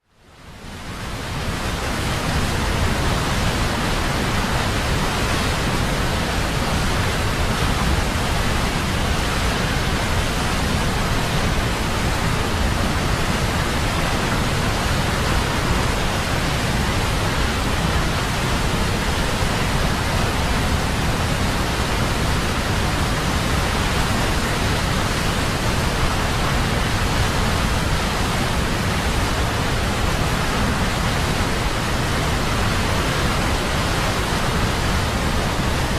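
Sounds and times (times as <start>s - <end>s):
heavy water rushing: 0.3s - 35.9s.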